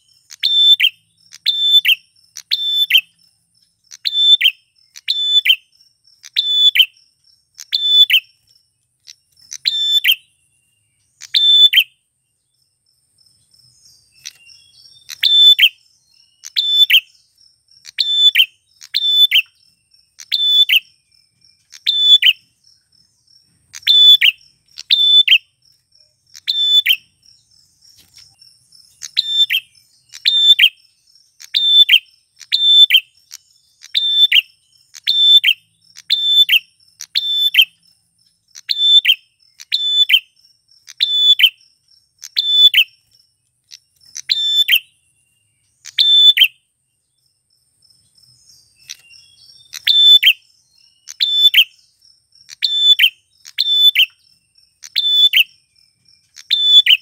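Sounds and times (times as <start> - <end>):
bird chirping: 0.0 - 57.0
insect trill: 0.0 - 57.0.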